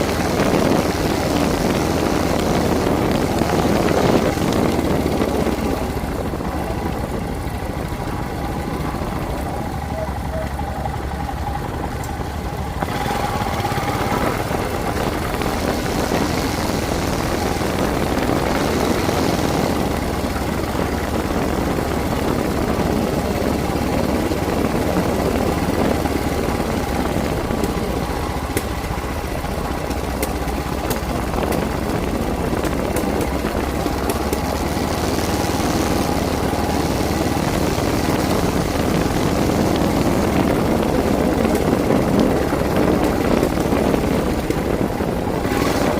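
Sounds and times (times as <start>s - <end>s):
motorcycle engine running: 0.0s - 45.9s
noisy rush: 0.0s - 45.9s.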